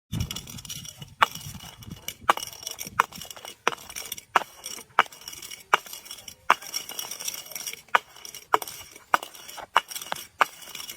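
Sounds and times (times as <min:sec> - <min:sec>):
fine crackle of glass: 0:00.1 - 0:10.9.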